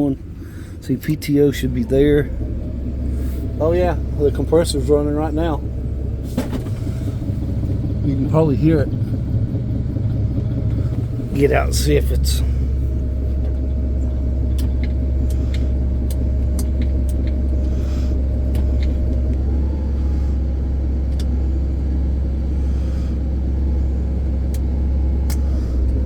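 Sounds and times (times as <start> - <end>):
truck engine idling: 0.0 - 26.0
air compressor running: 2.0 - 26.0.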